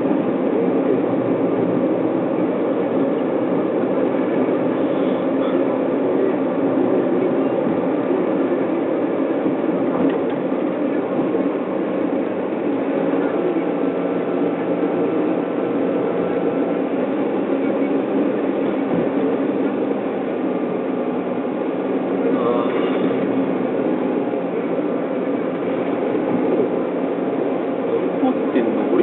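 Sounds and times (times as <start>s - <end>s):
car interior road and engine noise: 0.0s - 29.0s.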